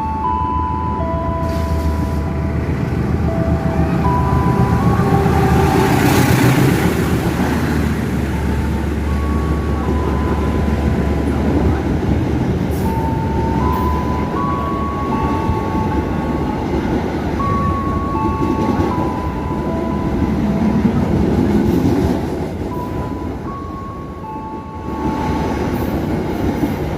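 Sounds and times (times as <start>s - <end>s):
high level tones: 0.0s - 21.7s
train wheels rumbling on rails: 0.7s - 26.9s.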